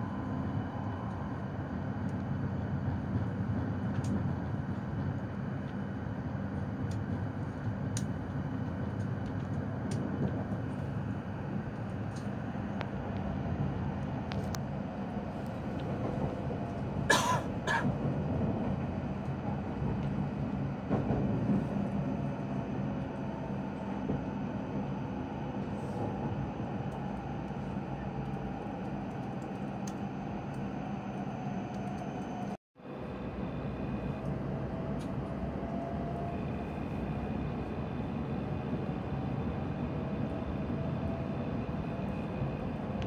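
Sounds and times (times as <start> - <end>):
train rumble from inside car: 0.0 - 43.0.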